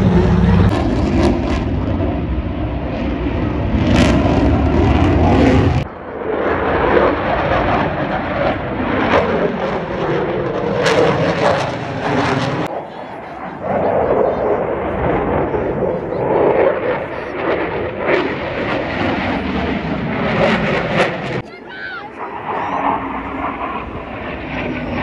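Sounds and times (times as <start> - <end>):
jet flying overhead: 0.0 - 25.0
propeller plane engines droning: 0.0 - 25.0.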